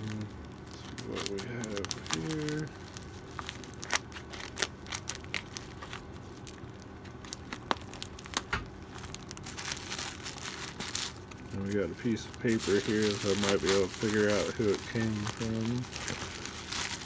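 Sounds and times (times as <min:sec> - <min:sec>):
plastic crinkling: 0:00.0 - 0:17.0.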